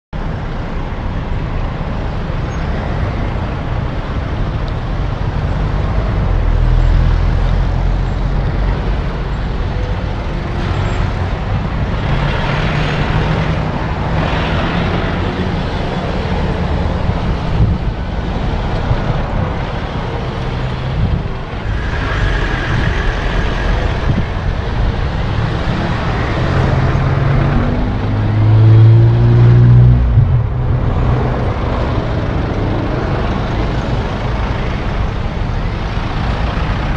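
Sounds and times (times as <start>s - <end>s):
vehicle engine rumbling: 0.2s - 36.9s.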